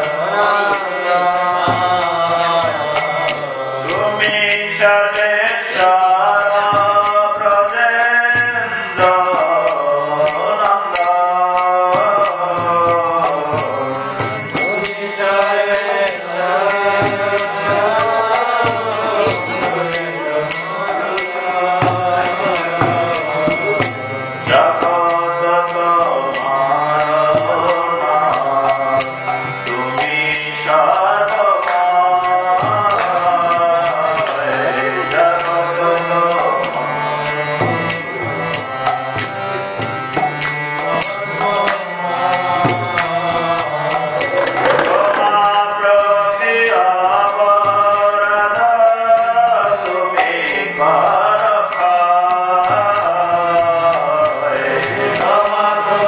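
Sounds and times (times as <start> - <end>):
voices chanting a melody: 0.0 - 56.0.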